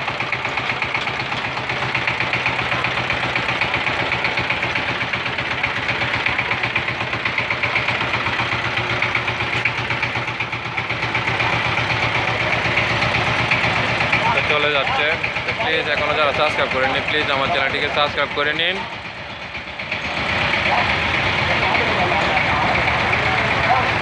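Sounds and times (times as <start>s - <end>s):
diesel tiller engine chugging: 0.0s - 24.0s.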